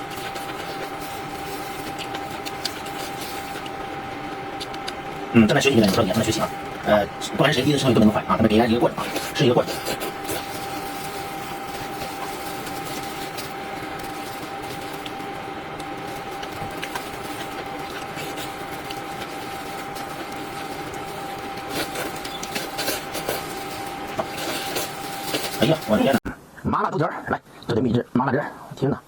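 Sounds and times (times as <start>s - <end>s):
constant whine: 0.0s - 27.6s
background hum and hiss: 0.0s - 29.0s.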